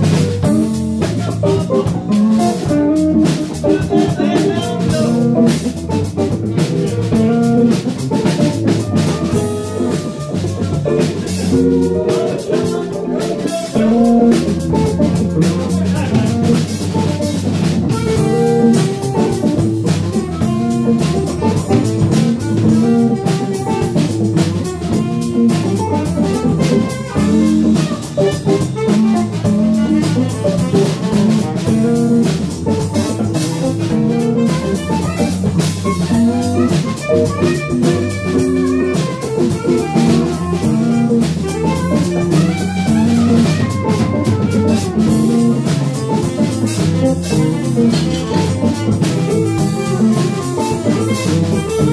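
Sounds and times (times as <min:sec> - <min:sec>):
drum kit beat: 0:00.0 - 0:51.9
electric bass: 0:00.0 - 0:51.9
electric guitar: 0:00.0 - 0:51.9
live band playing jazzy jam: 0:00.0 - 0:51.9.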